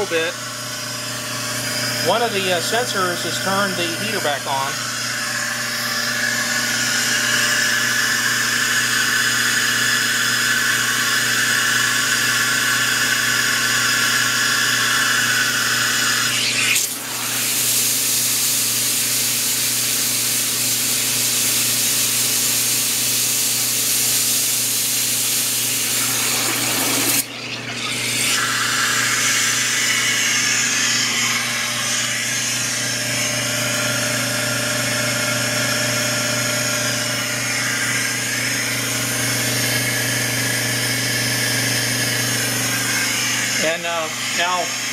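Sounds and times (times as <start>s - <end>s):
pump humming: 0.0s - 44.9s.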